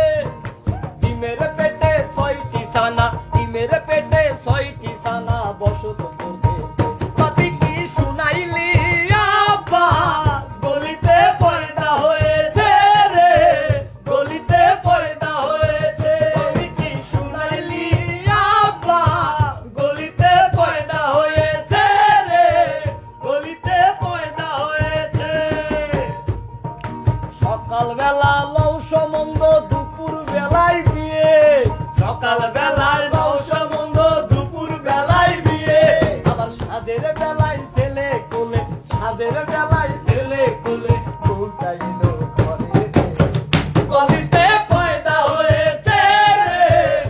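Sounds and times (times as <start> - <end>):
men singing folk song: 0.0 - 26.4, 27.3 - 47.0
hand drum strokes: 0.0 - 47.0.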